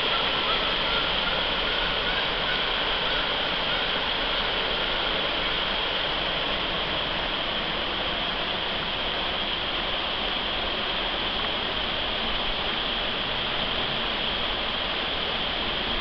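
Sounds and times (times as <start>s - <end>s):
creek rushing over rocks: 0.0s - 16.0s.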